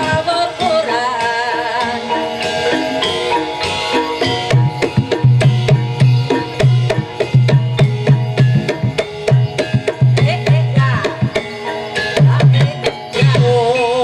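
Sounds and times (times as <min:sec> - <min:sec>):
hand drums beating fast: 0:00.0 - 0:14.0
ringing metallophones: 0:00.0 - 0:14.0
wavering high melody: 0:00.0 - 0:14.0.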